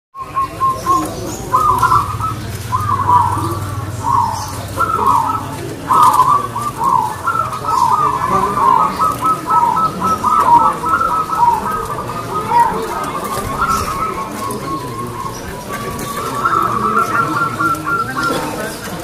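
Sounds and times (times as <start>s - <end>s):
dove cooing: 0.2s - 19.0s.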